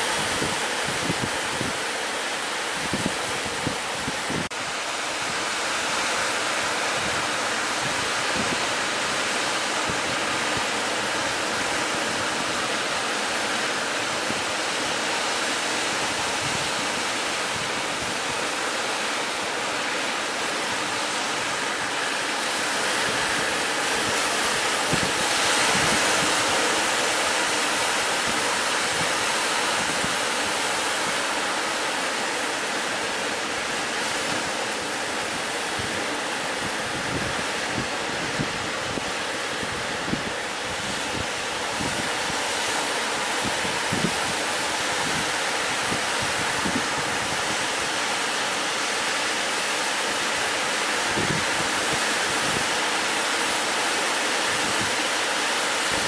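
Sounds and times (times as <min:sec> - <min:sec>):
sea surf breaking: 0:00.0 - 0:56.0.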